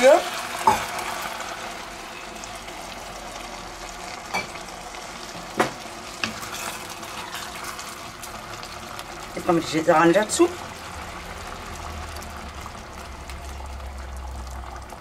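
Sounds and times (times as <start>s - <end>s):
meat and vegetables sizzling in pot: 0.0s - 15.0s.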